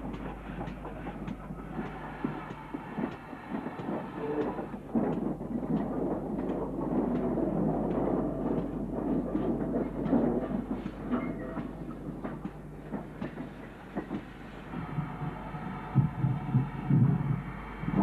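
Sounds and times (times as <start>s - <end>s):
steam train running: 0.0s - 18.0s.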